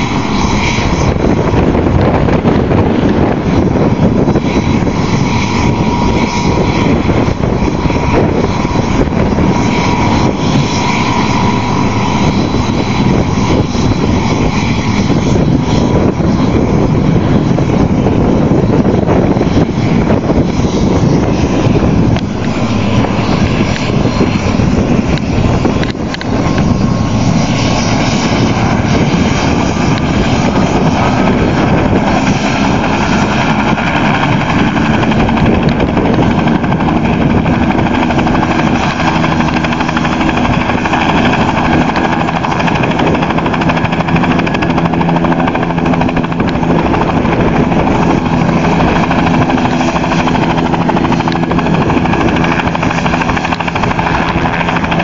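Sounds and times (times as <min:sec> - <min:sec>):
helicopter engine with high whine: 0:00.0 - 0:55.0.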